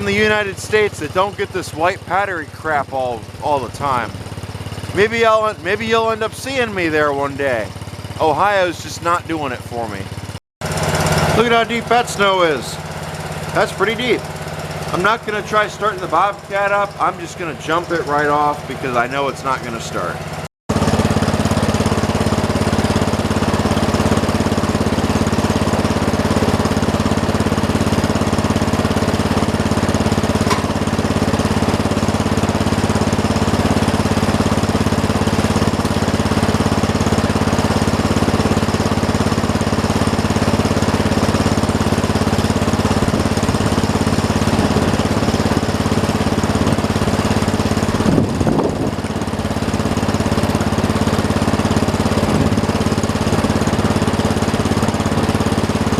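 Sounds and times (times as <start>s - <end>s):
small engine running steadily: 0.0s - 55.9s.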